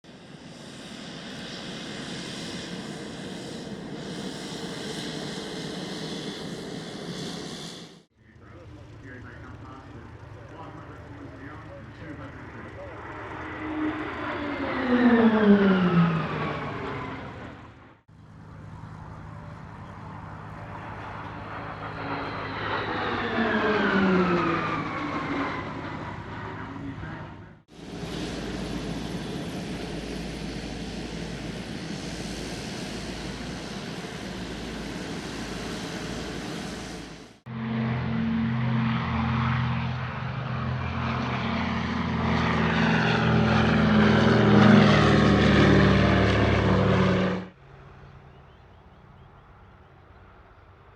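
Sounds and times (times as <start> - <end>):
aircraft engine drone: 0.0 - 50.9
aircraft fly-by: 0.0 - 50.9.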